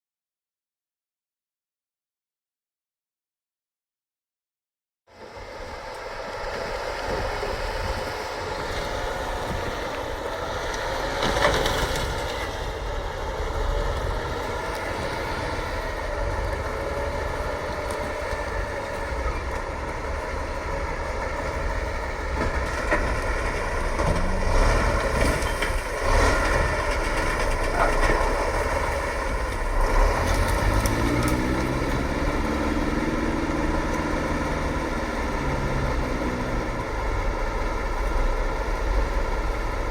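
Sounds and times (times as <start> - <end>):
truck engine rumbling: 5.1 - 39.9.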